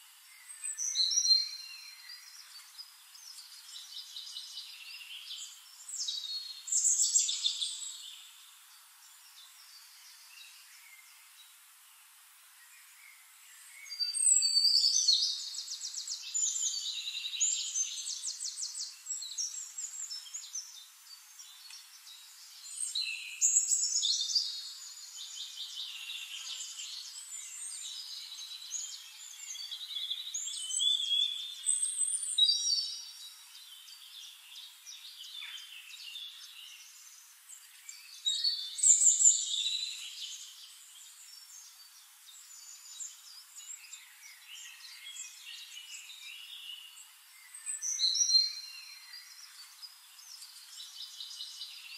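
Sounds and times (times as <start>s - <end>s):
songbird trills and chirps: 0.0s - 51.9s.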